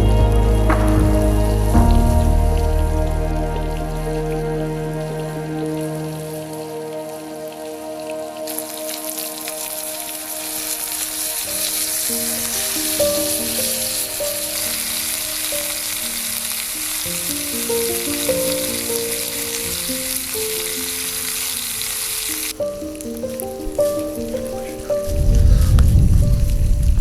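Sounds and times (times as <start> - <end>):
background music with held notes: 0.0 - 27.0
steady loud hiss: 0.0 - 27.0.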